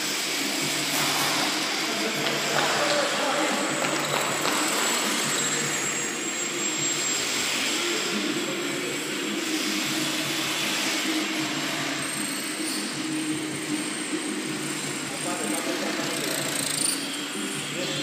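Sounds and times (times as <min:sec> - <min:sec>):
model plane propellers buzzing: 0:00.0 - 0:18.0.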